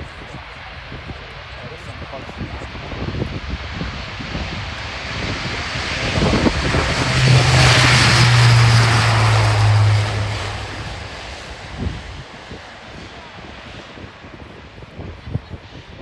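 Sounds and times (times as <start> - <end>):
propeller aircraft taking off: 0.0 - 15.8.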